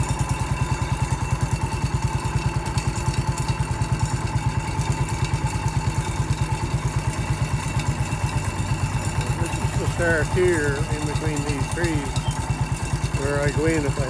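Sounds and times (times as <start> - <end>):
garden tractor engine running: 0.0 - 14.0.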